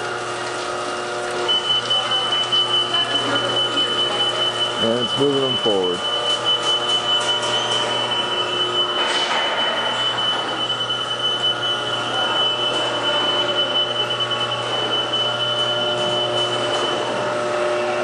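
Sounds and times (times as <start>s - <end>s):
machinery drone: 1.4s - 18.0s.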